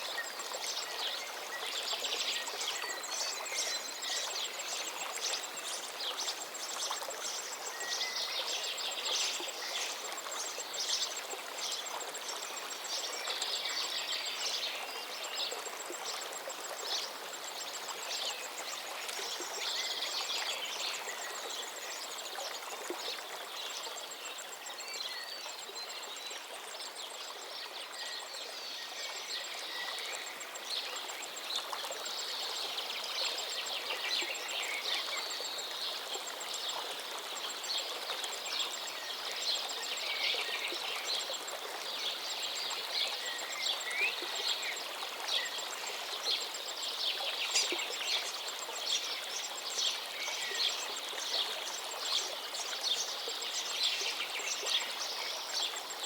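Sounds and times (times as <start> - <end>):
river water flowing: 0.0 - 56.0
songbirds chirping: 0.0 - 56.0.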